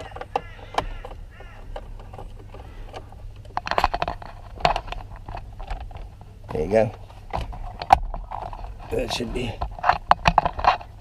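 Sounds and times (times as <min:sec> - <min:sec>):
plastic clicks and knocks: 0:00.0 - 0:08.8, 0:09.6 - 0:11.0.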